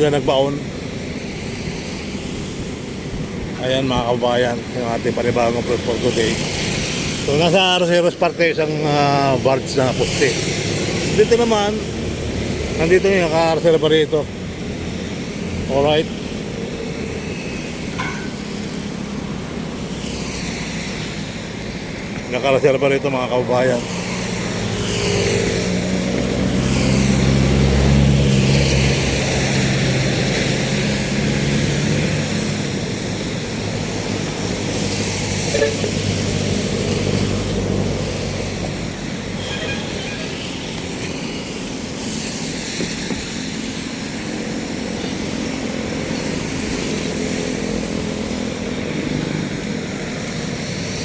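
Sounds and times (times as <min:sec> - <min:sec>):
water rushing: 0:00.0 - 0:51.0.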